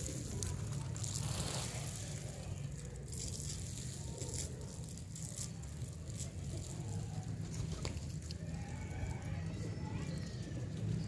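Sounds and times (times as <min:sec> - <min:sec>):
pigeons pecking at feed: 0:00.0 - 0:11.0.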